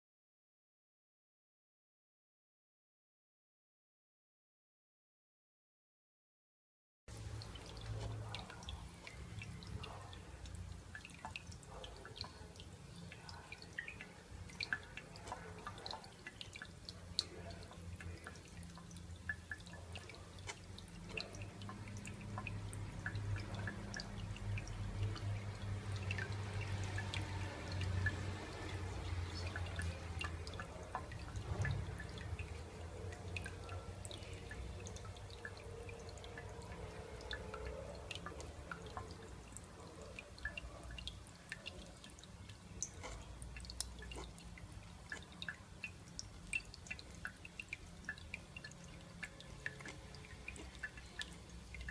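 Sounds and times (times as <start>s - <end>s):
low steady hum: 7.1s - 51.9s
water droplets splashing: 7.2s - 51.9s.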